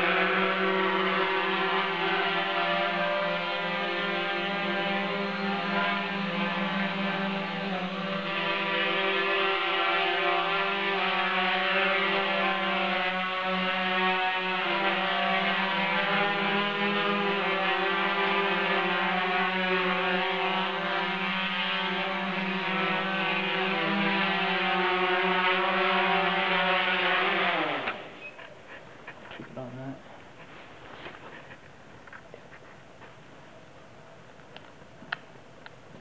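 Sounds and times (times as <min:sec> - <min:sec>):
quadcopter hovering buzz: 0:00.0 - 0:29.2.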